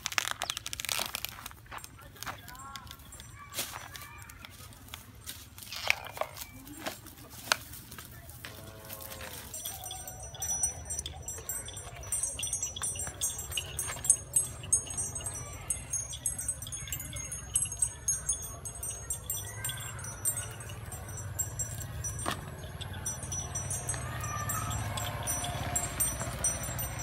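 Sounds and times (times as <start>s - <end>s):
cattle bells jingling: 0.1s - 27.0s.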